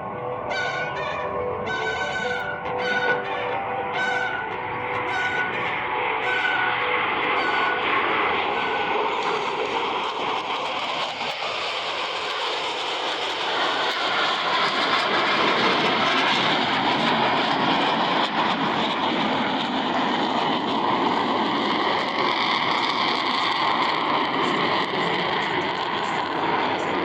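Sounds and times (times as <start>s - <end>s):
jet planes flying past: 0.0s - 27.0s.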